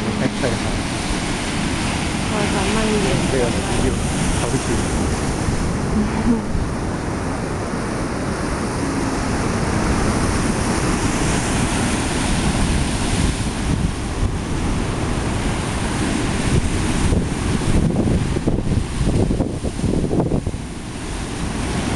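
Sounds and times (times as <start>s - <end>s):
surf breaking over rocks: 0.0s - 21.9s
wind buffeting microphone: 0.0s - 21.9s.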